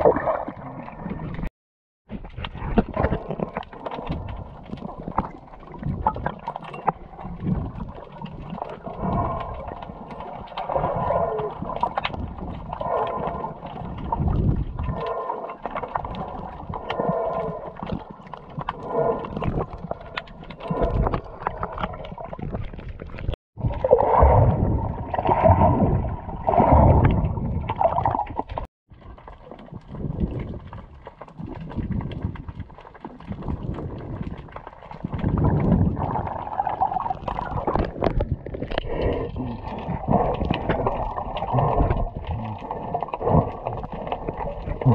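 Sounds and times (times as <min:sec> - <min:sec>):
muffled underwater sloshing: 0:02.1 - 0:44.9.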